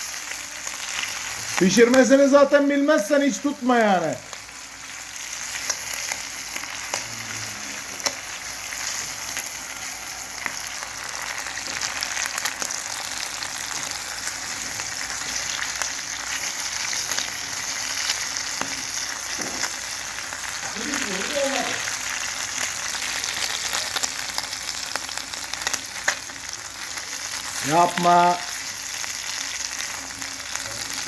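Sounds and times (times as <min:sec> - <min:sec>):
squid sizzling in hot oil: 0:00.0 - 0:31.0.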